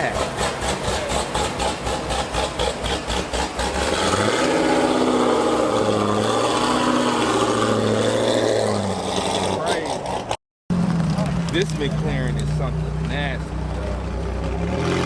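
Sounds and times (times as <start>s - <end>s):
car engine passing by: 0.0s - 15.0s.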